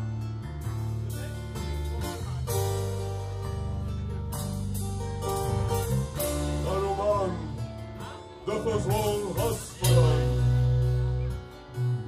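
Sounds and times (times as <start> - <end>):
acoustic guitar: 0.0 - 12.0
sustained low bass: 0.0 - 12.0.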